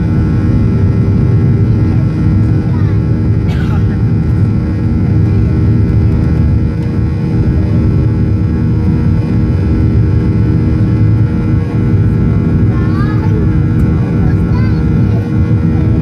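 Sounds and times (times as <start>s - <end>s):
jet engine cabin drone: 0.0s - 16.0s
steady humming tones: 0.0s - 16.0s.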